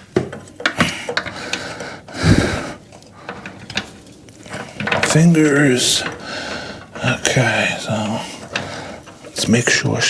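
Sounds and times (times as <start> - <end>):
roller chain clicking and rattling: 0.0 - 10.0.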